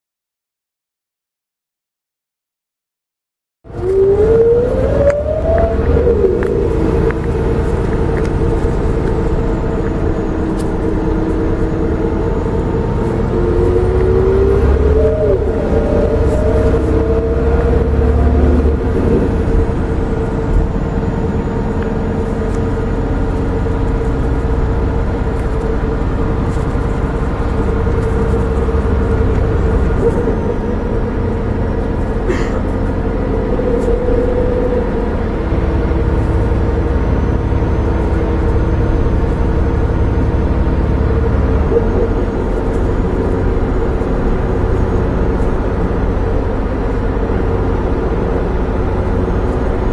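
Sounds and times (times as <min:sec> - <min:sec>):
diesel engine rumble and whine: 0:03.6 - 0:49.9
gearbox whine rising in pitch: 0:03.7 - 0:49.9.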